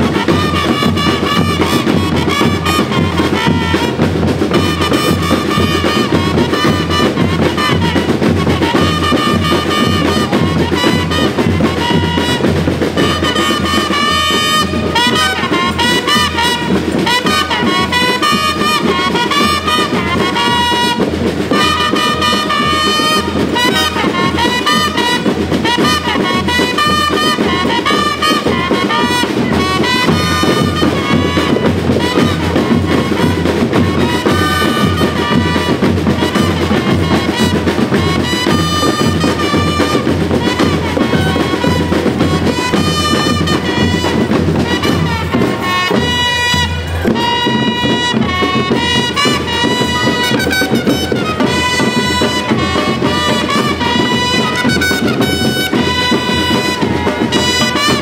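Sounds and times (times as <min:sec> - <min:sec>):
drums keeping a steady beat: 0:00.0 - 0:58.0
pitched melody line: 0:00.0 - 0:58.0.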